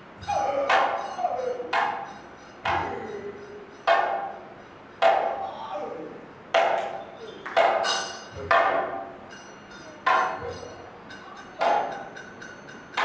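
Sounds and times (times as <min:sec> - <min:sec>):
metal gong strokes ringing: 0:00.0 - 0:05.5, 0:07.8 - 0:13.0.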